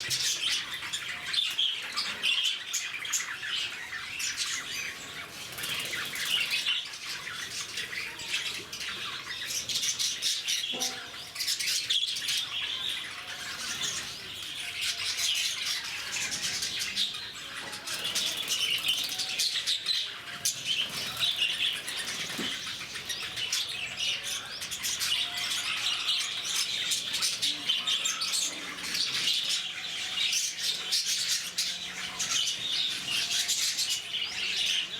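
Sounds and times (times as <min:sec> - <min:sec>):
lovebirds chirping: 0:00.0 - 0:34.9.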